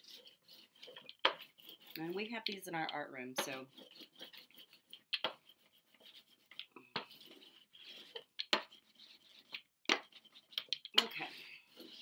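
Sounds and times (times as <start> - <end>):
brayer rubbing on paint: 0.0 - 12.0.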